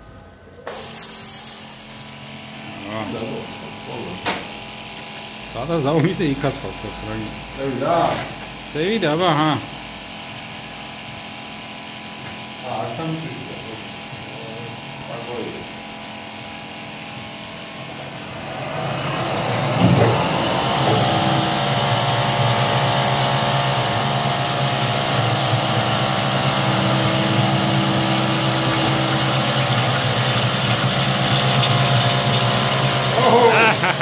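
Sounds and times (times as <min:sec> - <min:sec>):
milling machine whine: 0:00.3 - 0:34.0
coolant hiss: 0:00.8 - 0:34.0.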